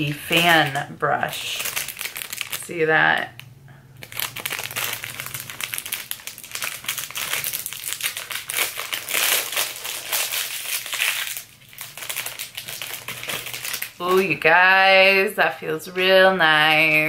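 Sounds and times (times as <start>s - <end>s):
plastic wrapper crinkling: 0.0s - 14.6s.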